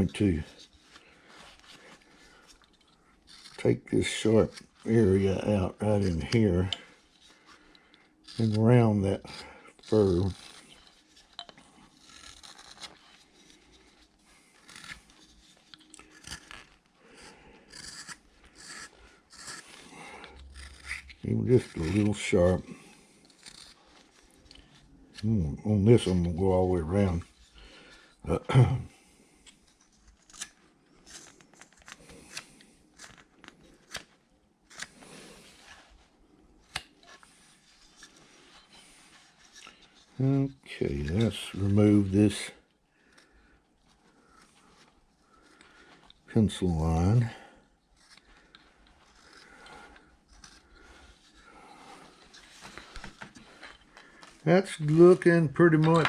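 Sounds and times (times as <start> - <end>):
carving knife shaving wood: 0.0 - 56.0.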